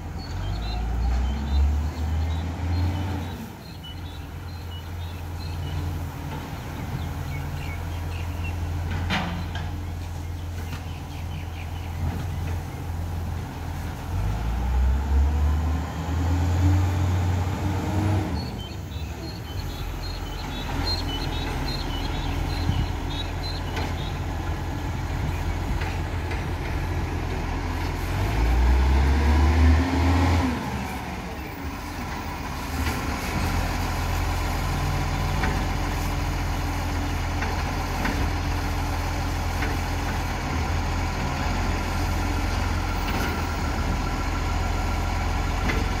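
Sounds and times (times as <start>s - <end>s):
garbage truck diesel engine: 0.0s - 46.0s.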